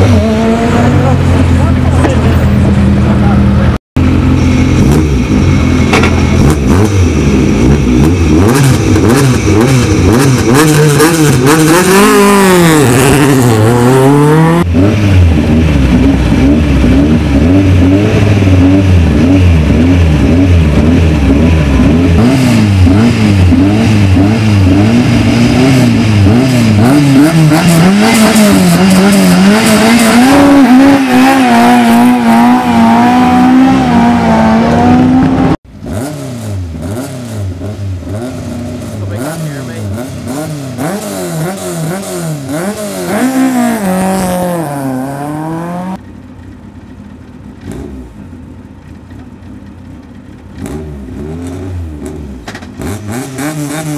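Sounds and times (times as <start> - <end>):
quieter engine: 0.0 - 53.9
rally car engines revving: 0.0 - 53.9.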